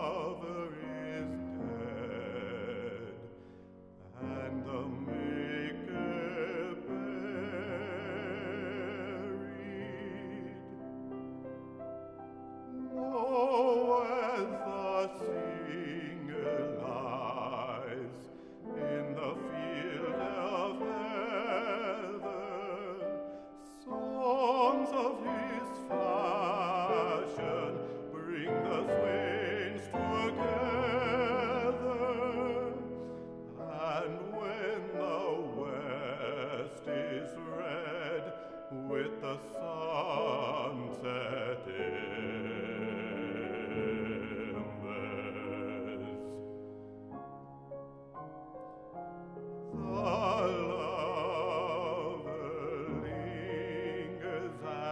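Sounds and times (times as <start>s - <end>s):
man singing with vibrato: 0.0s - 10.8s, 12.6s - 46.6s, 49.7s - 54.9s
grand piano accompaniment: 0.0s - 54.9s.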